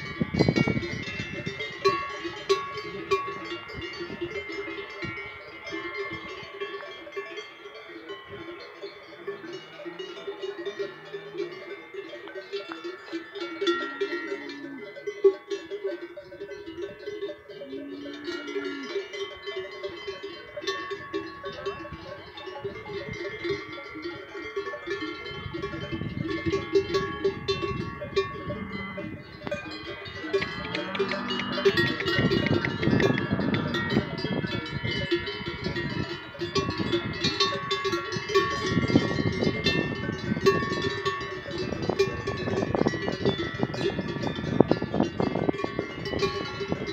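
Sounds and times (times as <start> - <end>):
cowbells ringing: 0.0 - 46.9.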